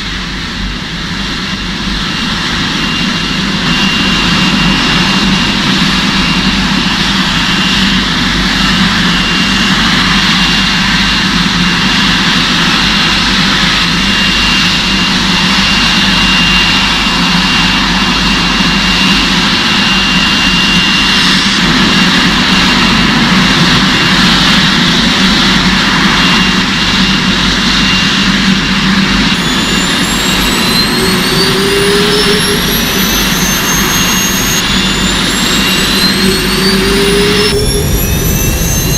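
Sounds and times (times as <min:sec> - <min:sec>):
jet engine running: 0:00.0 - 0:38.9
jet engine spooling up whines: 0:00.0 - 0:38.9.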